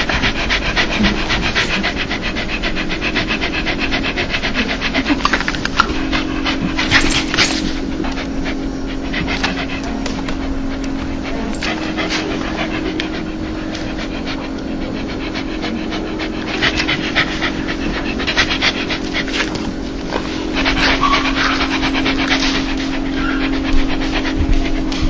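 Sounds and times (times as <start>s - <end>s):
dog panting: 0.0s - 25.0s
steady low hum: 0.0s - 25.0s.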